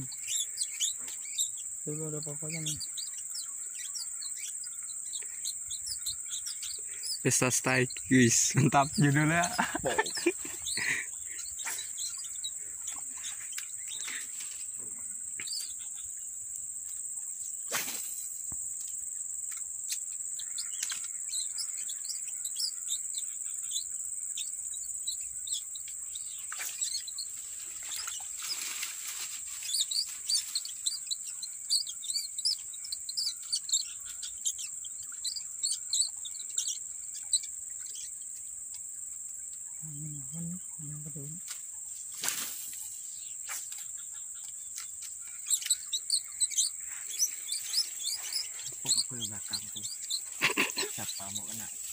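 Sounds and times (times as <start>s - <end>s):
insects droning: 0.0s - 51.9s
quick insect chirps: 0.0s - 51.9s.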